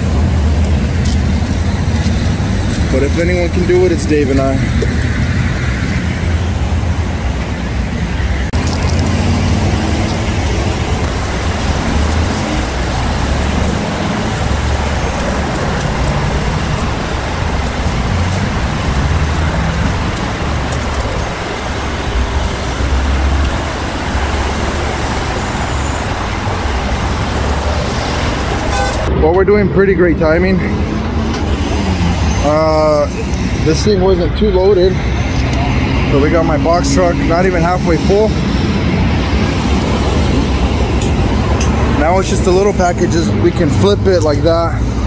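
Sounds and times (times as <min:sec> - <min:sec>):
freeway traffic noise: 0:00.0 - 0:45.0.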